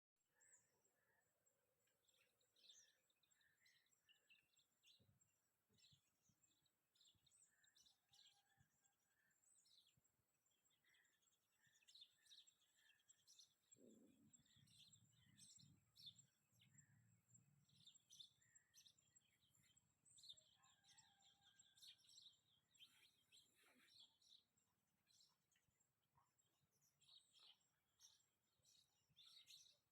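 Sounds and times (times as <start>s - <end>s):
birds chirping and trilling: 0.4s - 29.9s.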